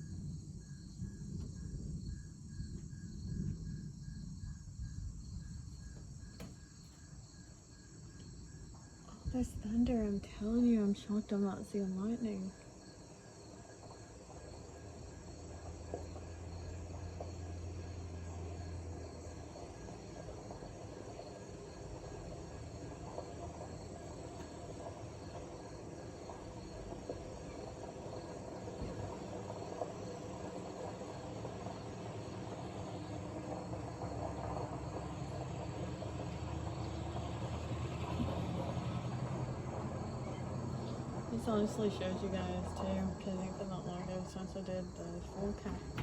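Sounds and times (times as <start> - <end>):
distant thunder rumbling: 0.0 - 46.0
insects chirring: 0.0 - 46.0.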